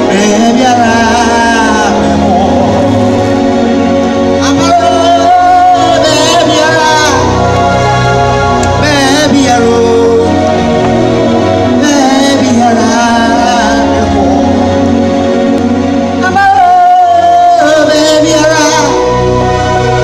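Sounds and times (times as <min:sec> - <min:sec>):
person singing long wavering notes: 0:00.0 - 0:20.0
steady bass: 0:00.0 - 0:20.0
sustained keyboard chords: 0:00.0 - 0:20.0.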